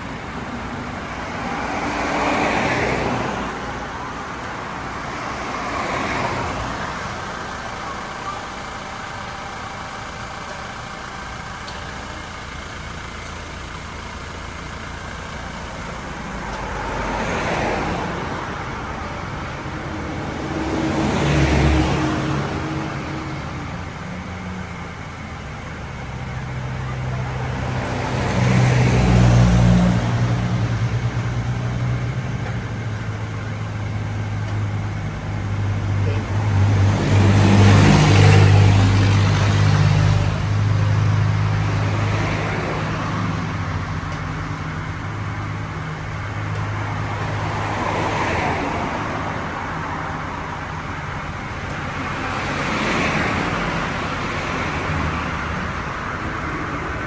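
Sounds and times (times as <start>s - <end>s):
low engine hum: 0.0s - 57.0s
vehicles passing: 0.0s - 57.0s.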